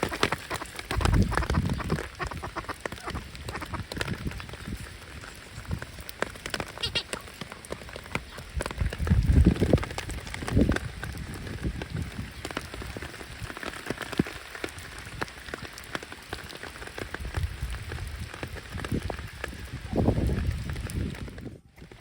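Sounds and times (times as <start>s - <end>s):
raindrops ticking sharply: 0.0s - 22.0s
steady rain falling: 0.0s - 22.0s.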